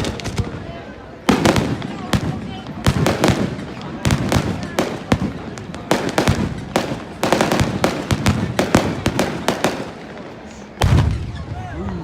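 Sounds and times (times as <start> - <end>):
fireworks cracking and banging: 0.0 - 11.6.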